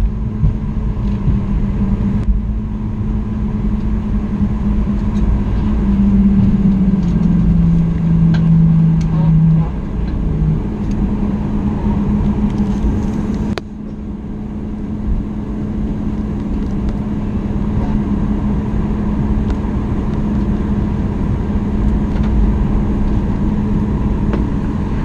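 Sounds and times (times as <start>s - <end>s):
airplane cabin hum: 0.0s - 25.0s
loud low rumble: 0.0s - 25.0s.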